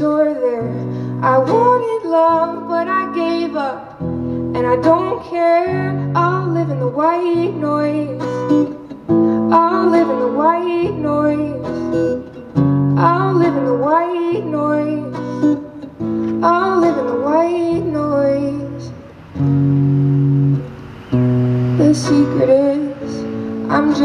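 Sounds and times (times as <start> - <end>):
woman singing: 0.0 - 8.8, 9.4 - 12.2, 12.9 - 19.0, 21.8 - 24.0
strummed acoustic guitar: 0.0 - 24.0.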